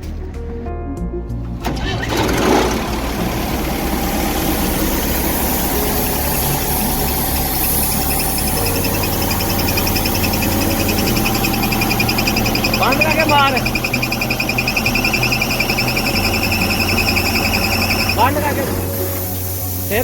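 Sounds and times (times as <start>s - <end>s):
diesel engine clattering: 1.3s - 20.0s.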